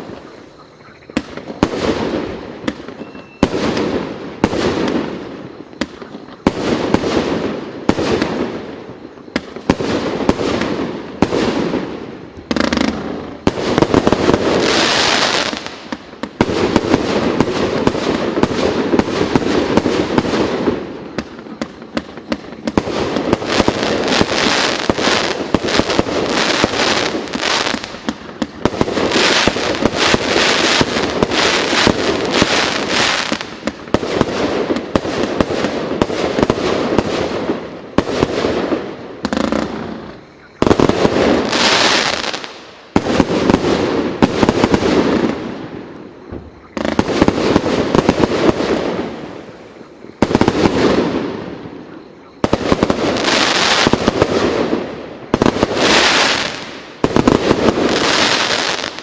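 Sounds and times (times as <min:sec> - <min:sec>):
firework crackling bursts: 0:00.0 - 0:59.0
firework shots: 0:00.0 - 0:59.0.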